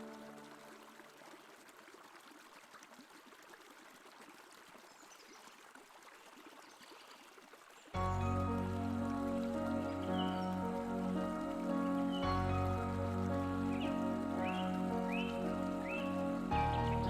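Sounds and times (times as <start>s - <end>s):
faint trickling water: 0.0s - 17.0s.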